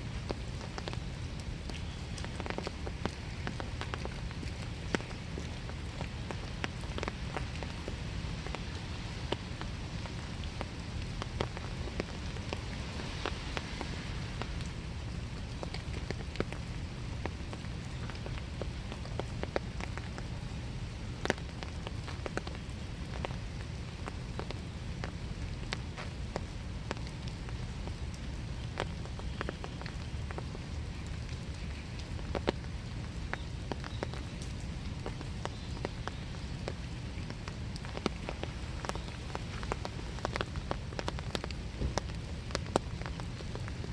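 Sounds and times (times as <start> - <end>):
rain drips and drop taps: 0.0 - 43.9
rain hiss: 0.0 - 43.9.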